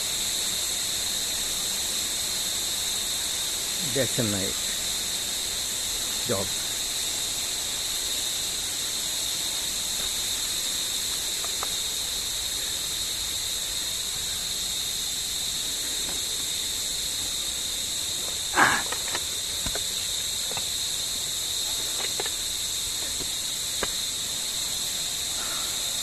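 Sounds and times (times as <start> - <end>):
insect chorus drone: 0.0 - 26.0.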